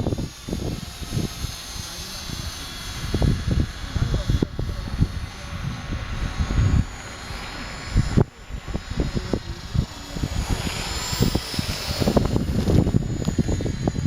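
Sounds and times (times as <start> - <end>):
rc helicopter motor whine: 0.0 - 14.0.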